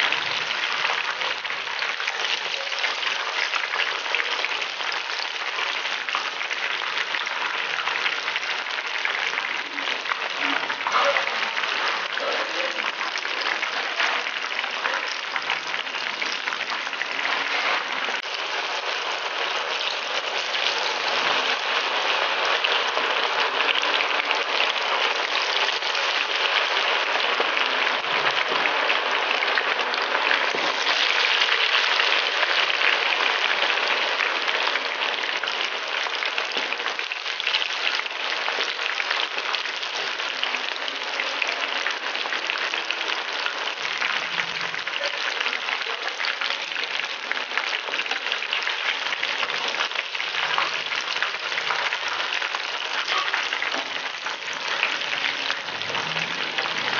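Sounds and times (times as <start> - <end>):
food sizzling in hot oil: 0.0 - 56.9.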